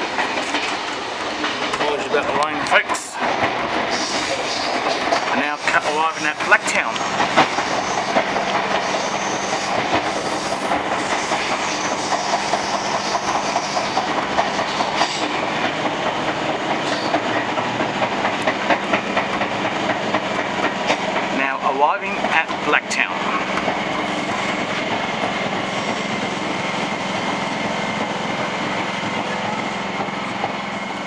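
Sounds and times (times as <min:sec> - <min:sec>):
train wheels clattering over rails: 0:00.0 - 0:31.0.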